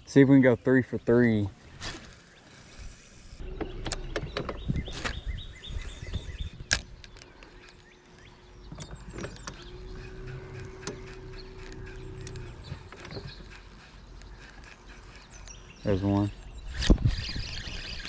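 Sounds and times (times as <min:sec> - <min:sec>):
steady low whine: 0:00.0 - 0:18.0
small bird chirping: 0:00.8 - 0:18.0.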